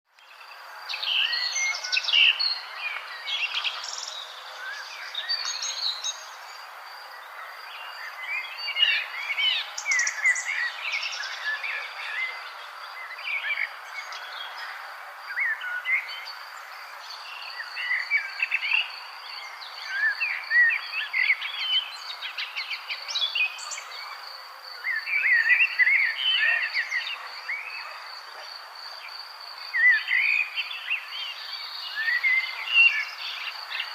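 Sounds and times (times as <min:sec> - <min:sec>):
songbirds chirping and warbling: 0:00.1 - 0:33.9
insect trill: 0:00.3 - 0:33.9.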